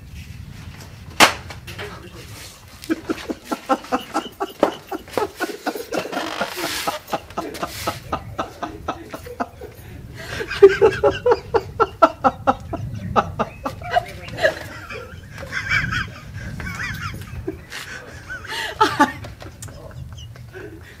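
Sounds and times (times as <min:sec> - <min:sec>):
laughter bursts: 0:02.0 - 0:21.0.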